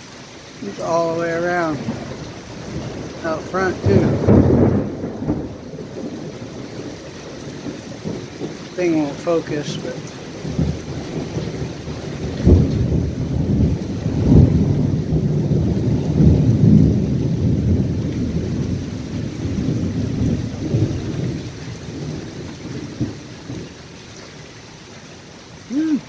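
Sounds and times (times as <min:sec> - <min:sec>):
rain falling: 0:00.0 - 0:26.0
thunder rumbling: 0:00.6 - 0:23.8.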